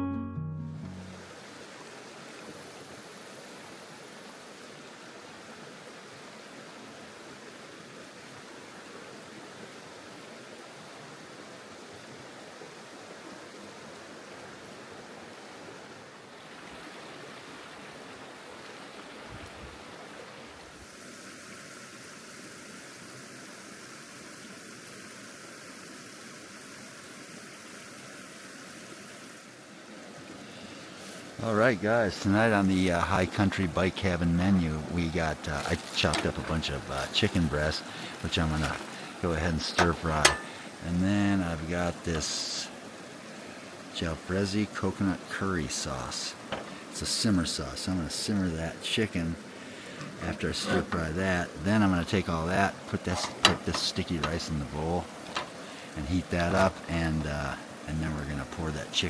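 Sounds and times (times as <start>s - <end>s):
river water rushing: 1.0s - 59.0s.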